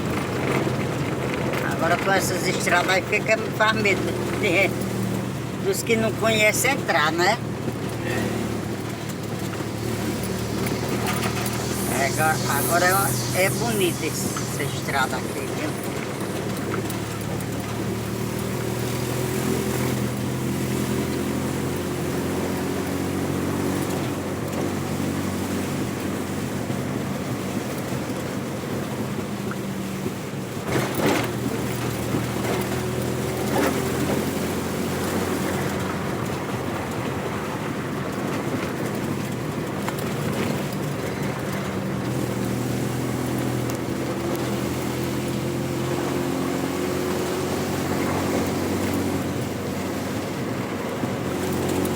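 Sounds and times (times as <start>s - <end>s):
road noise: 0.0s - 51.9s
vehicle engine running: 0.0s - 51.9s.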